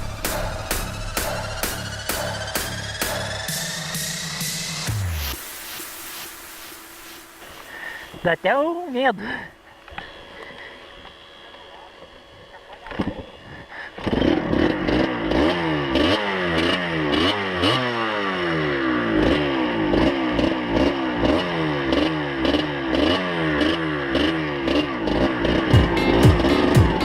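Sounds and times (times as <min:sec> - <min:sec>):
dirt bike engine: 0:00.0 - 0:27.0.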